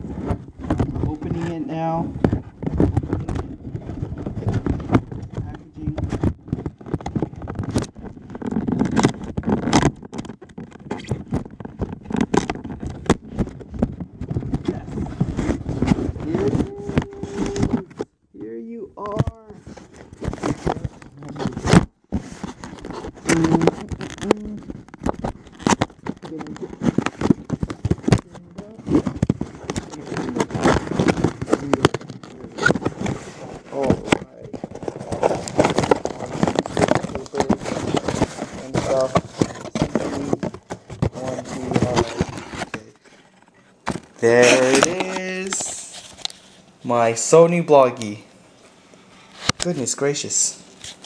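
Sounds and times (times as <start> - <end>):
cardboard packaging rustling and tearing: 0.0 - 48.2, 49.3 - 51.0.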